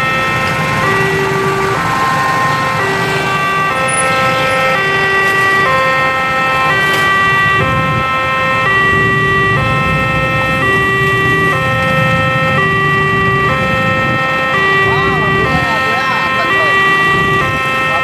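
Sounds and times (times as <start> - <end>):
level crossing two-tone alarm: 0.0 - 18.0
passing vehicles: 0.0 - 18.0.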